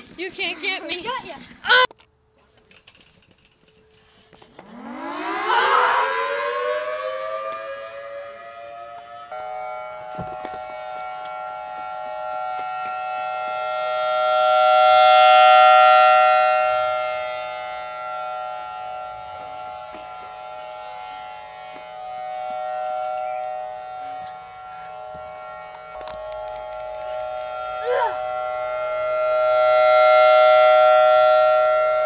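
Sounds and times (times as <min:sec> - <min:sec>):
warning siren chord: 0:04.4 - 0:32.0.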